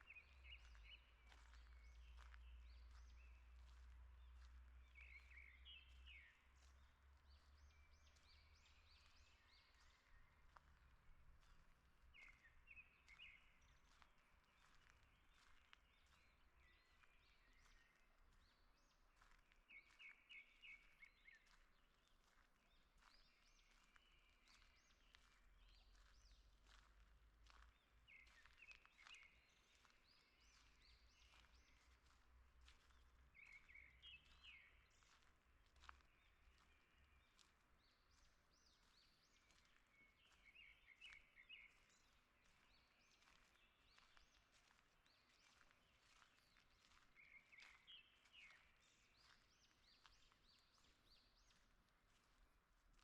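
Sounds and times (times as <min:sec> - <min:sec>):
faint songbird song: 0:00.0 - 0:53.0.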